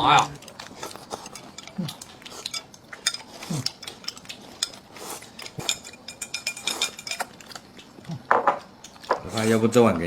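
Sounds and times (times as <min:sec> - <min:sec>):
utensils clinking against dishes: 0:00.0 - 0:09.6.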